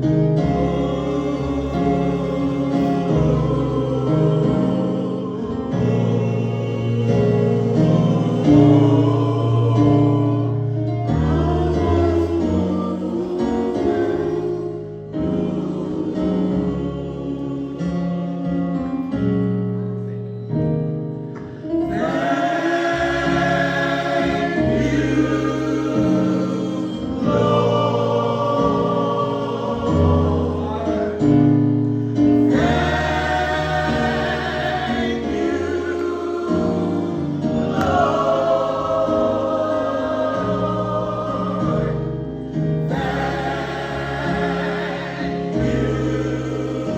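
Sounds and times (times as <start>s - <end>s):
voices singing gospel: 0.0s - 18.9s, 21.4s - 46.9s
instrumental accompaniment with bass: 0.0s - 46.9s.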